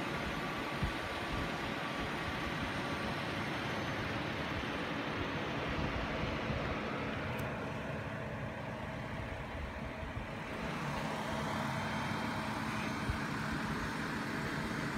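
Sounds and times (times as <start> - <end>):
car running rumble: 0.0 - 14.9.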